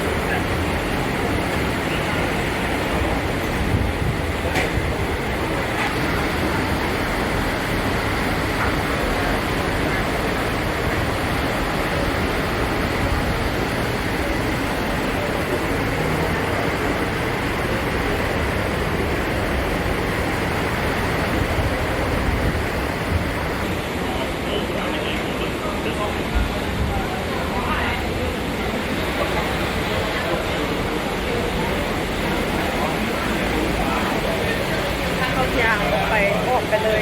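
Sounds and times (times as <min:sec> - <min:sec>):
rushing sea: 0:00.0 - 0:37.0
wind: 0:00.0 - 0:37.0.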